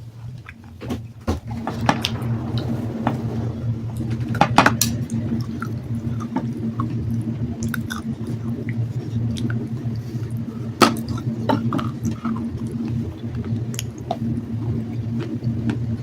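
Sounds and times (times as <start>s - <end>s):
steady low hum: 1.2s - 15.6s.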